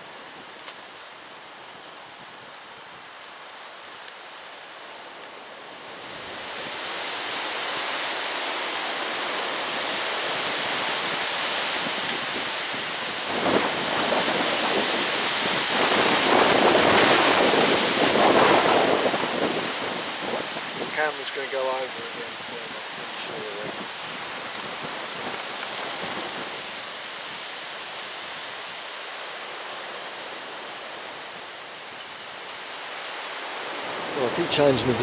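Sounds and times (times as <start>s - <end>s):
wind gusting over microphone: 5.7s - 31.9s, 32.7s - 35.0s.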